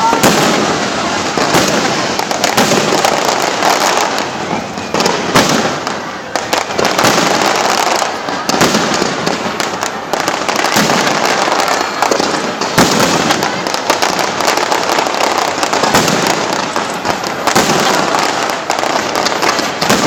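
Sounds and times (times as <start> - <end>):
fireworks crackling: 0.0 - 20.0
loud firework bangs: 0.0 - 20.0.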